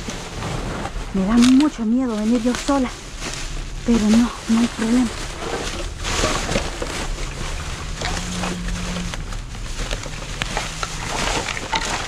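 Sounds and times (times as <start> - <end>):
low steady hum: 0.0 - 12.0
trash rustling and crinkling: 0.0 - 12.0.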